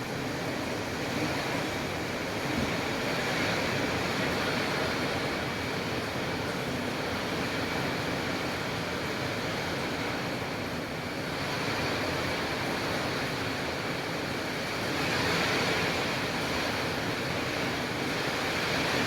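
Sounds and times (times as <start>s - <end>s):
rain falling in strong wind: 0.0s - 19.0s.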